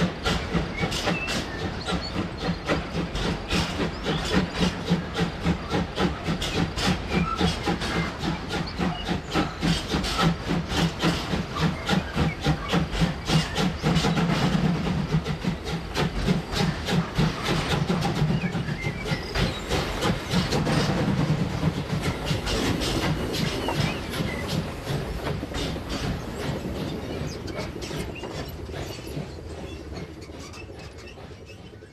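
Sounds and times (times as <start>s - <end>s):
model train wheels clicking: 0.0s - 31.9s.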